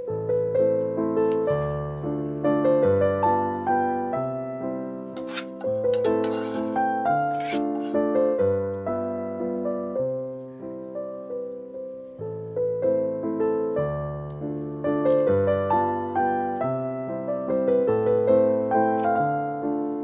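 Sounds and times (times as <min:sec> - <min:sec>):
solo piano music: 0:00.0 - 0:20.0.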